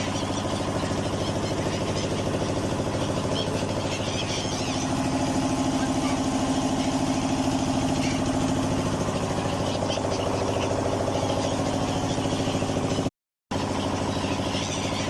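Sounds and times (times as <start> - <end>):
high bird calls: 0.0 - 15.0
motorboat engine idling: 0.0 - 15.0.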